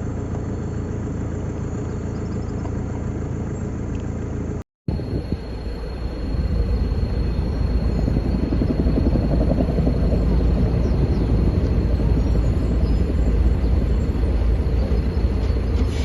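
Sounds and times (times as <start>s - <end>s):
loud low engine rumble: 0.0s - 16.0s.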